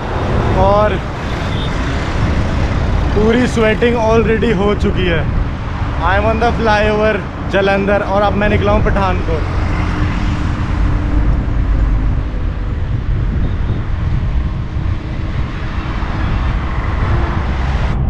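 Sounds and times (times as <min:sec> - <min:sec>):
road traffic noise: 0:00.0 - 0:18.0
wind rumbling on microphone: 0:00.0 - 0:18.0.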